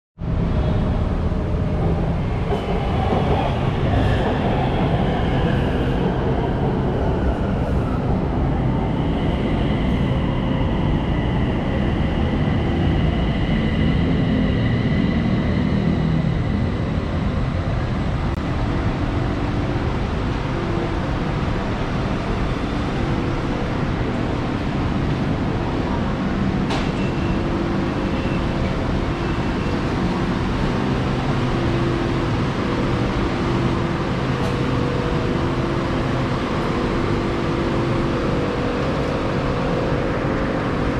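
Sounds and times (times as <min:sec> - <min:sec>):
electric train rumble and motor whine: 0:00.2 - 0:40.9.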